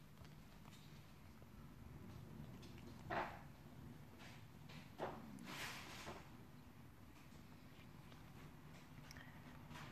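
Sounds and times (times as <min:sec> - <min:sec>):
puppies sucking and smacking: 0:00.0 - 0:09.9.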